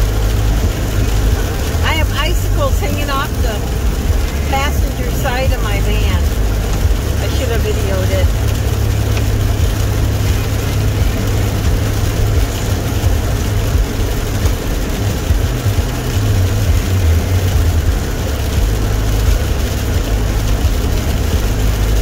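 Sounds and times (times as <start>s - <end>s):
low rumble of engine and tyres: 0.0s - 22.0s.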